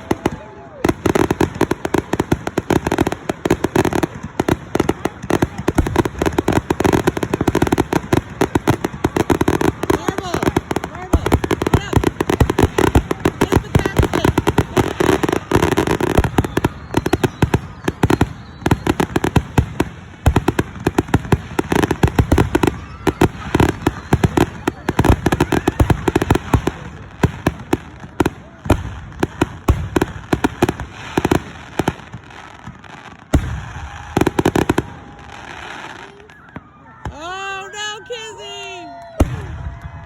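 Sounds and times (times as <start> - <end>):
fireworks bangs: 0.0 - 40.0
fireworks crackling: 0.0 - 40.0.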